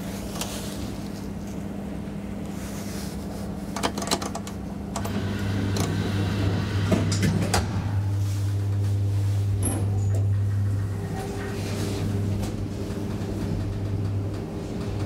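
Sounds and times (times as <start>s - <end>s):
elevator motor hum: 0.0s - 15.0s.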